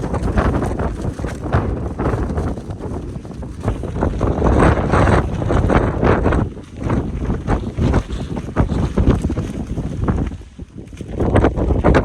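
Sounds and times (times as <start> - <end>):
gale wind buffeting microphone: 0.0 - 12.0.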